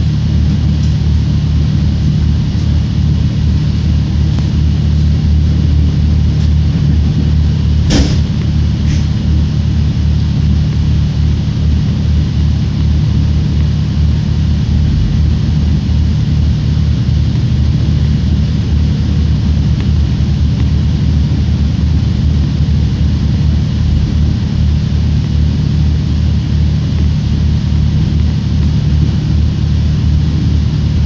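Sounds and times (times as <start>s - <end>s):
train running rumble from inside: 0.0s - 31.0s.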